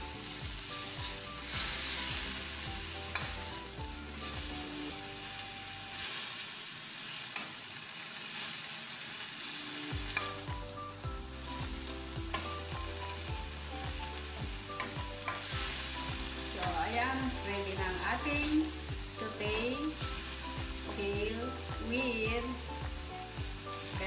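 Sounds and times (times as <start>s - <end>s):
vegetables sizzling in wok: 0.0s - 24.0s.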